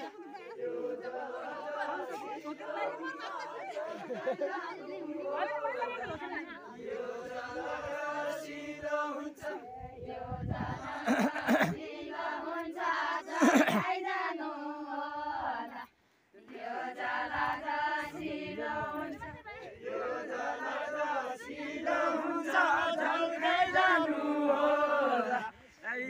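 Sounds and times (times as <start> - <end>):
group chanting folk song: 0.0 - 26.0.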